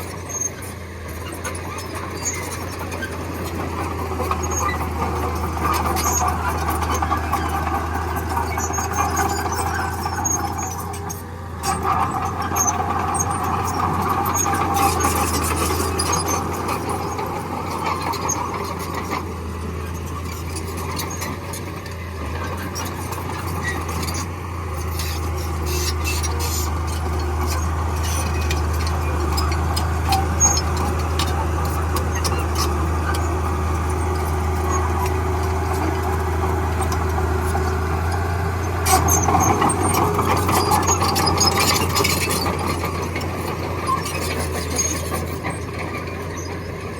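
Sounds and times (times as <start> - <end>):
diesel engine drone: 0.0 - 46.9.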